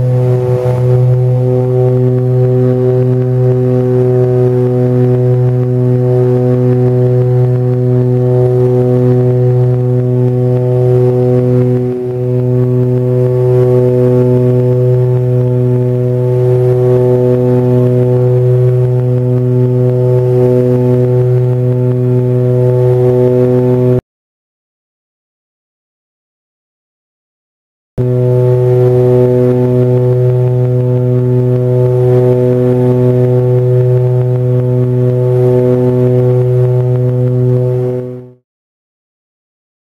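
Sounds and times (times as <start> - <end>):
propeller aircraft engine droning: 0.0 - 24.0, 28.0 - 38.4.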